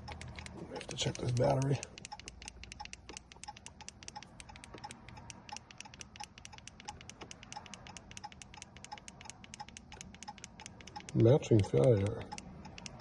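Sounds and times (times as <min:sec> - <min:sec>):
rapid electronic ticking: 0:00.0 - 0:13.0.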